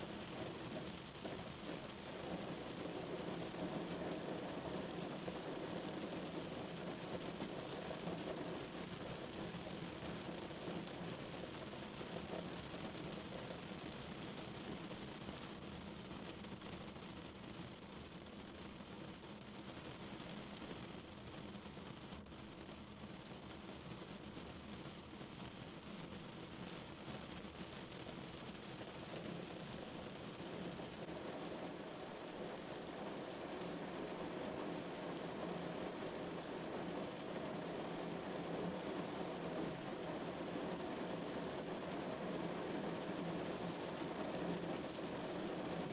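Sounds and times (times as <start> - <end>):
rain pattering on car roof: 0.0 - 45.9.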